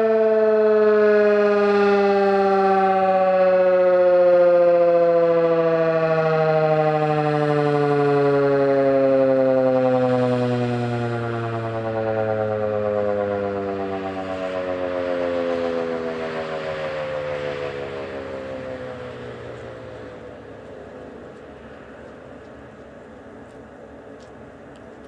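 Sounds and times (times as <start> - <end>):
two-tone siren winding down: 0.0 - 20.5.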